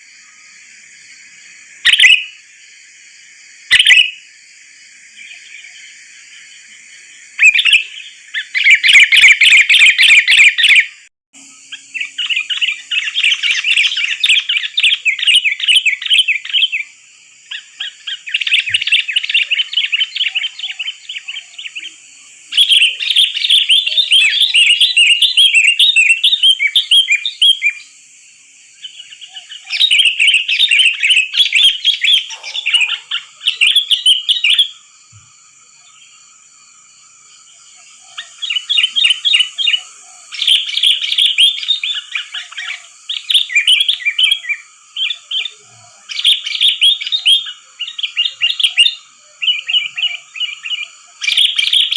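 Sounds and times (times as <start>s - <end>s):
bird singing bubbly chirps: 1.8s - 2.4s, 3.7s - 4.2s, 5.2s - 28.0s, 28.8s - 34.8s, 37.7s - 51.9s.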